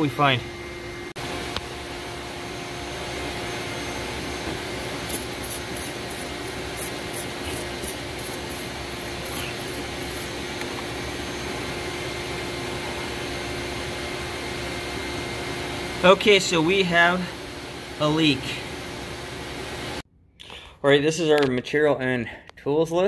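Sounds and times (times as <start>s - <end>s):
air pump humming: 0.0s - 20.0s.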